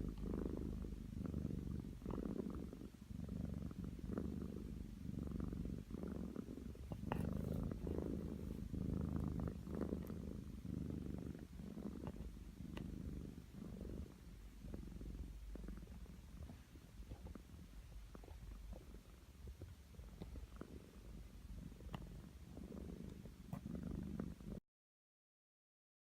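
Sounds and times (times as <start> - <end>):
cat snoring: 0.0 - 24.6.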